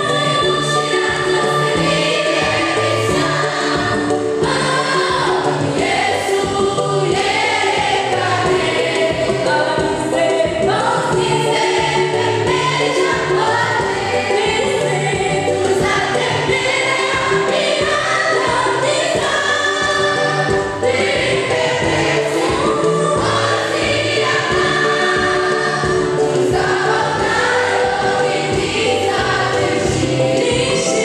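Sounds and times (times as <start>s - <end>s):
choir singing gospel song: 0.0s - 31.0s.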